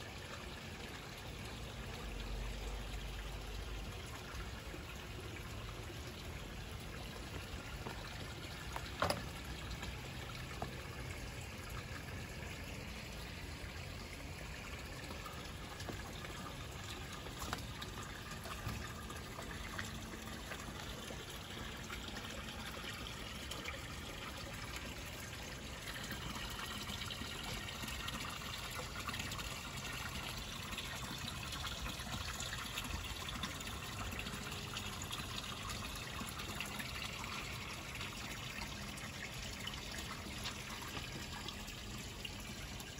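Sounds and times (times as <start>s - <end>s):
water trickling into pond: 0.0s - 42.9s.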